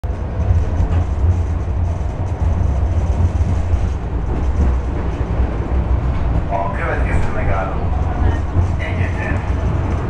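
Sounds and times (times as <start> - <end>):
tram wheels rumbling: 0.0 - 10.0.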